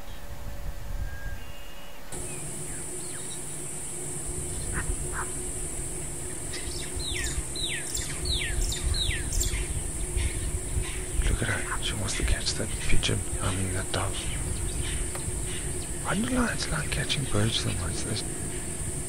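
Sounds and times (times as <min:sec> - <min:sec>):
steady high-pitched hiss: 0:00.0 - 0:19.0
low outdoor rumble: 0:02.1 - 0:19.0.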